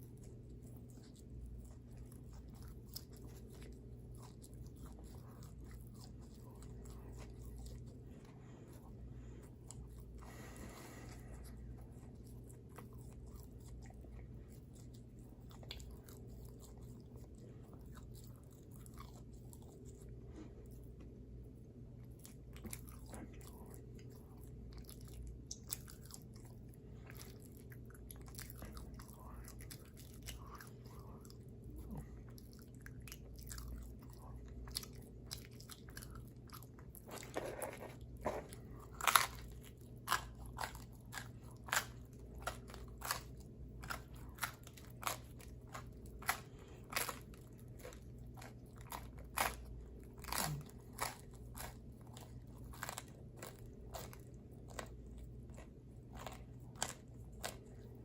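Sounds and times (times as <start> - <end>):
chewing pizza: 0.0 - 58.0.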